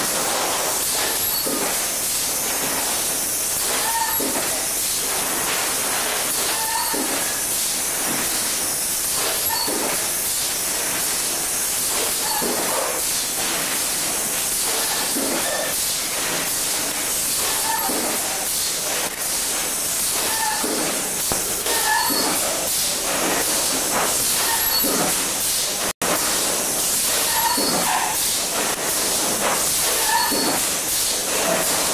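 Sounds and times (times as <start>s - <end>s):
machine running with steady hiss: 0.0s - 31.9s.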